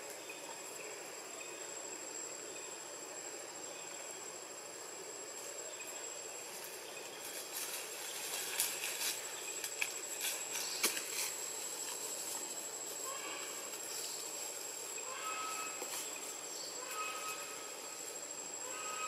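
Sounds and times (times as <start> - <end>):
high-pitched insect whine: 0.0 - 19.0.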